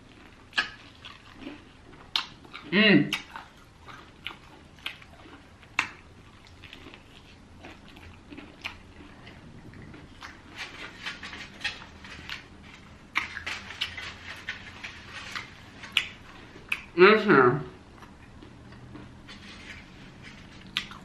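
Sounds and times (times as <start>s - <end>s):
crisp chewing crunches: 0.0s - 17.0s, 17.7s - 21.0s.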